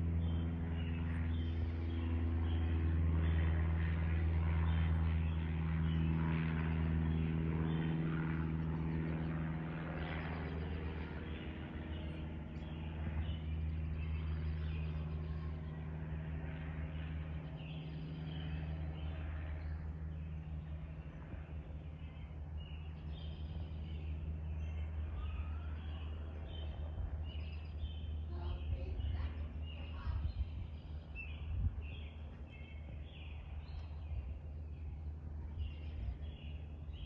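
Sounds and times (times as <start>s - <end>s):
aircraft drone: 0.0s - 37.0s
birds chirping: 0.0s - 37.0s.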